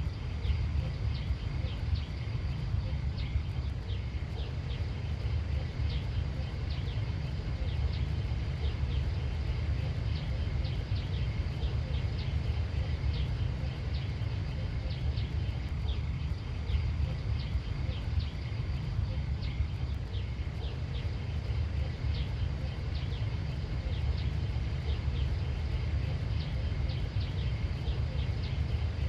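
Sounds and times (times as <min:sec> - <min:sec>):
small bird chirping: 0:00.0 - 0:29.0
steady low rumble: 0:00.0 - 0:29.0.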